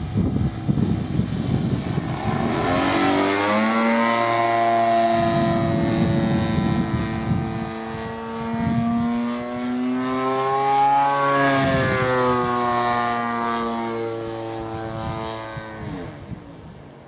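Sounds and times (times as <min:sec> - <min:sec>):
model plane engine: 0:00.0 - 0:17.0.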